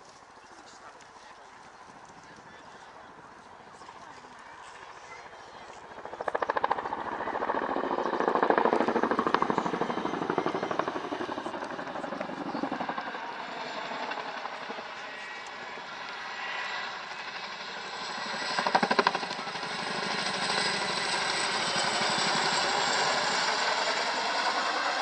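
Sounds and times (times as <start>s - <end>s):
helicopter rotors beating overhead: 0.0s - 25.0s.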